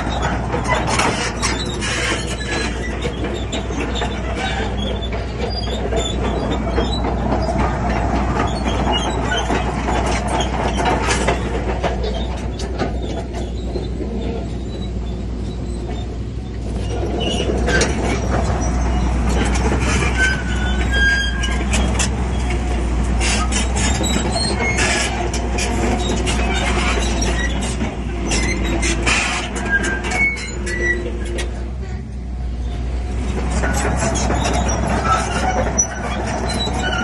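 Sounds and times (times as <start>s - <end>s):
diesel engine drone: 0.0s - 37.0s
tracks clanking and squealing: 0.0s - 37.0s.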